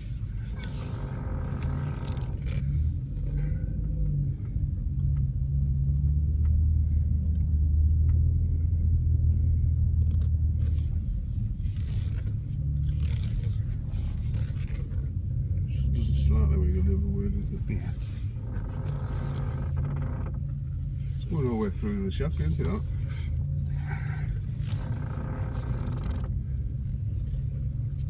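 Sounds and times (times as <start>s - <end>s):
steering low rumbling groan: 0.0s - 28.0s.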